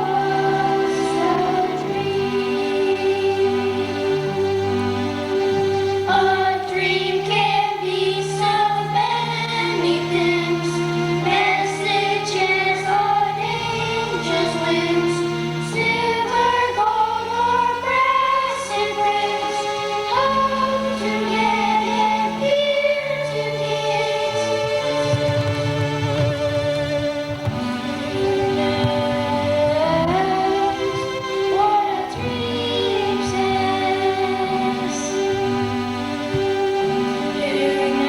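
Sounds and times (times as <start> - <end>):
choir singing: 0.0 - 25.9, 27.5 - 38.0
accompaniment music: 0.0 - 38.0.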